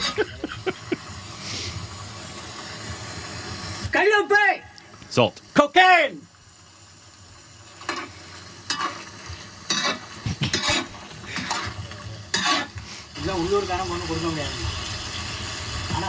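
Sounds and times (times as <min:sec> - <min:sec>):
salt scraping in a pan: 0:00.0 - 0:03.9, 0:06.8 - 0:16.0
frying hiss: 0:00.0 - 0:16.0.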